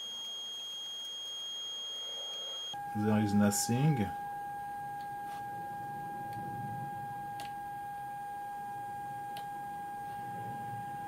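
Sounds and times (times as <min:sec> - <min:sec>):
high-pitched electrical hum: 0:00.0 - 0:11.0.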